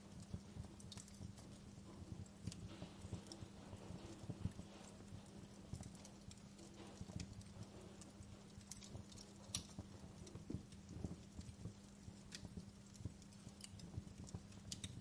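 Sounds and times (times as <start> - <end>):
faint low hum: 0.0 - 15.0
wood fire crackling: 0.0 - 15.0.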